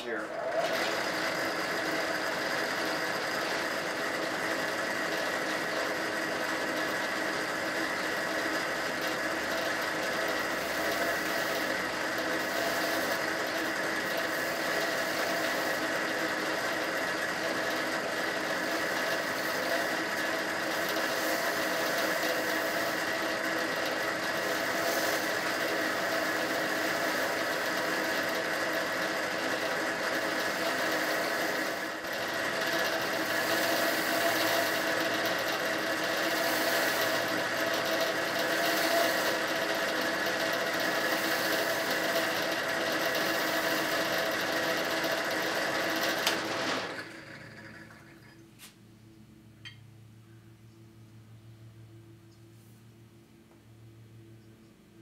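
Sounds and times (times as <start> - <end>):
drill press running: 0.0 - 48.7
flap wheel sanding steel: 0.6 - 48.7.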